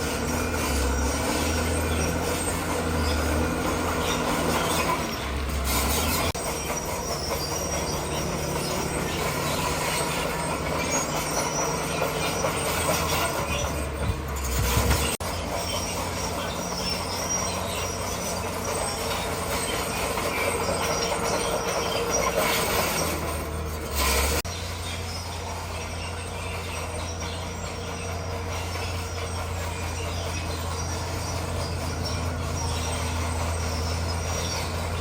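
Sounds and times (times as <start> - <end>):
bulldozer engine running: 0.0 - 35.0
metallic clatter of steel tracks: 0.0 - 35.0.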